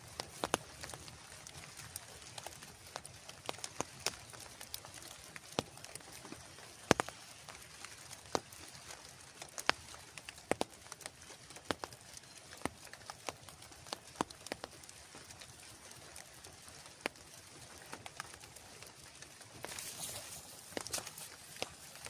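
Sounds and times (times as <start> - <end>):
water drops tapping on tarp: 0.0 - 16.3, 16.9 - 22.0
rain hiss: 0.0 - 22.0.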